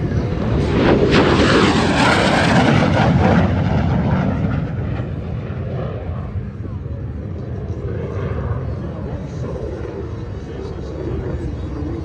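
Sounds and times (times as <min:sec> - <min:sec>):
jet passing overhead: 0:00.0 - 0:12.0.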